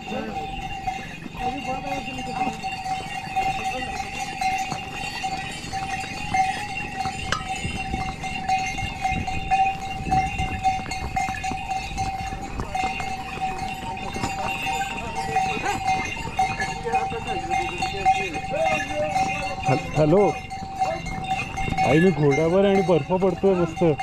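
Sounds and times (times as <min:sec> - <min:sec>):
harness bell ringing: 0:00.0 - 0:24.0
hooves on stone: 0:00.0 - 0:24.0.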